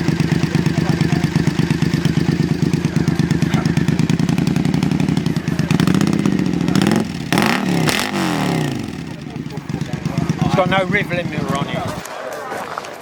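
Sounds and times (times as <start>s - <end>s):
motorcycle engine idling and revving: 0.0s - 12.1s.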